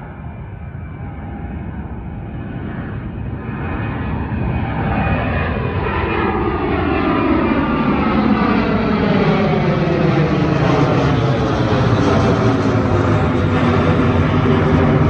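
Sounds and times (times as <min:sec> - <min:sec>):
airliner engines taking off: 0:00.0 - 0:15.0.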